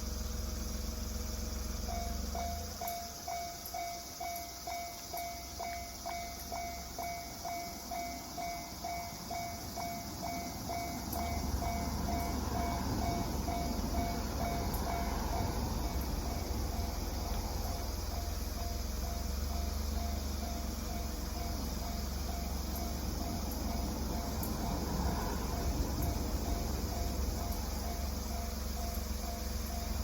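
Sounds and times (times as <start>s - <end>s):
low rumble of train: 0.0s - 30.0s.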